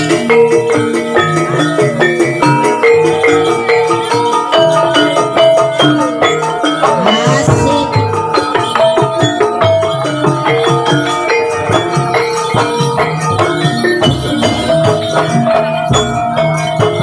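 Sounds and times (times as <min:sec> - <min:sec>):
tuned metal percussion melody: 0:00.0 - 0:17.0.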